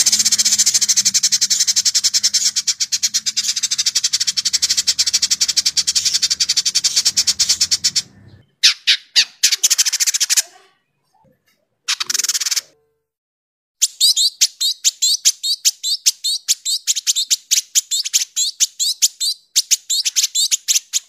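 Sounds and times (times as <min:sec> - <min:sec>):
bird chattering song: 0:00.0 - 0:10.5, 0:13.8 - 0:21.0.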